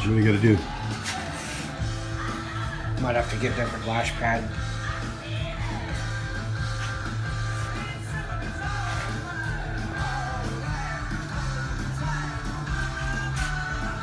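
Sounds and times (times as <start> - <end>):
rock music with singing: 0.0 - 14.0.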